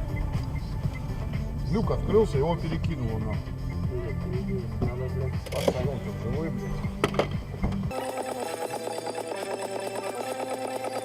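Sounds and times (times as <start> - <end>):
rapid electronic tones: 0.0 - 11.0.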